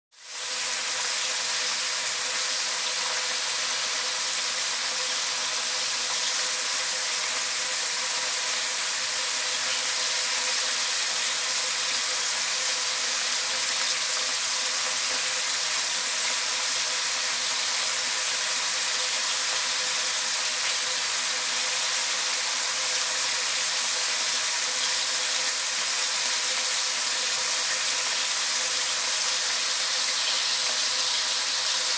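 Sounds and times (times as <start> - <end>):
meat sizzling in hot oil: 0.1 - 31.9.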